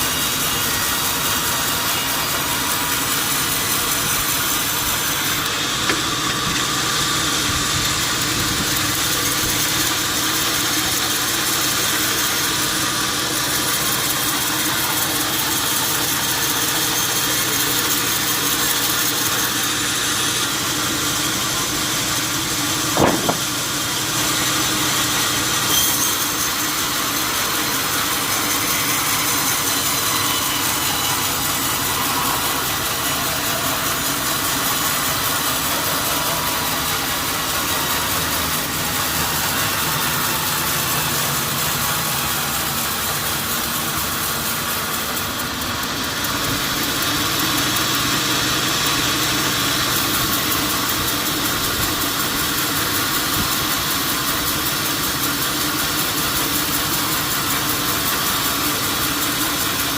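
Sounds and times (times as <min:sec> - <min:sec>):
mechanical drone: 0:00.0 - 0:59.9.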